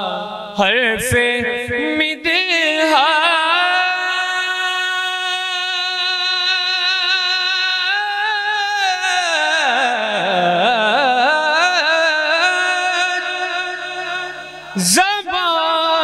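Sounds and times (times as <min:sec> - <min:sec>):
man singing melodic verse: 0:00.0 - 0:16.0.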